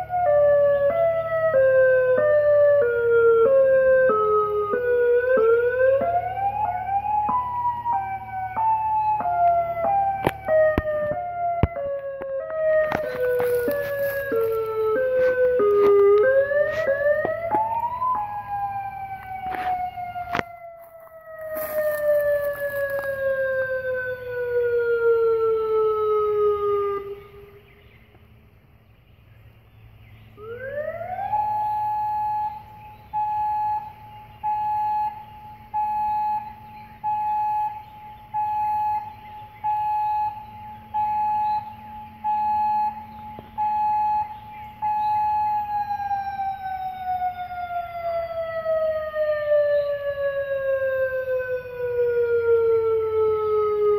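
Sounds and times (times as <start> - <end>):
electronic siren wail: 0.0 - 27.6, 30.4 - 53.9
pulsed steady siren tone: 0.0 - 28.0, 30.3 - 53.9.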